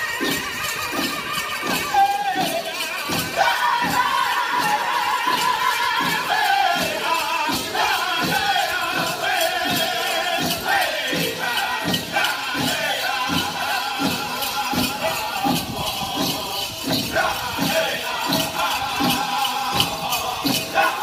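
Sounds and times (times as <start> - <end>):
group singing in high register: 0.0 - 21.0
steady drum beat: 0.0 - 21.0.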